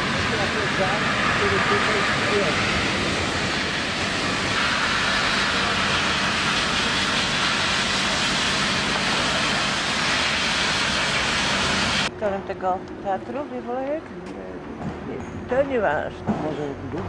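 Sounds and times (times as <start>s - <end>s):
loud steady rushing noise: 0.0s - 15.6s.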